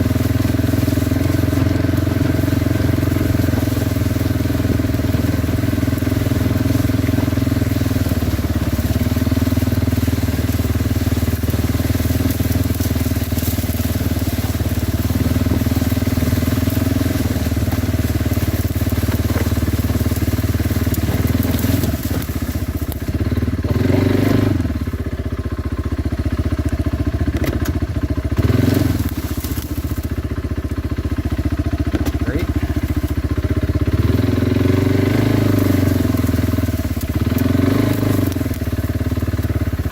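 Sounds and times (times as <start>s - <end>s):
atv engine running: 0.0s - 39.9s
engine throttle surges: 0.0s - 39.9s.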